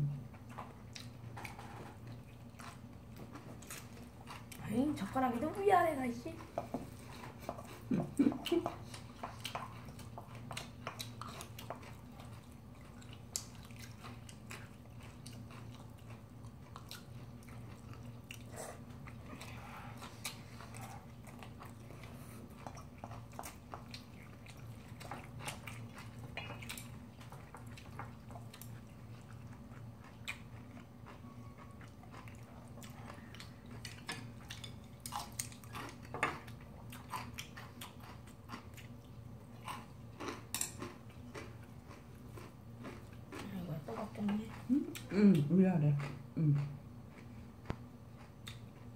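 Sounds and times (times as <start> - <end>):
low steady hum: 0.0 - 48.9
person chewing food: 0.3 - 4.6, 6.4 - 43.5, 44.1 - 45.4, 46.0 - 48.9.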